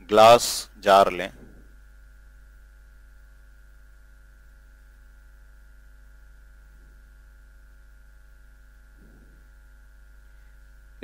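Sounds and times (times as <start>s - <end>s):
electrical hum: 0.0s - 11.0s
thin high whine: 0.0s - 11.0s.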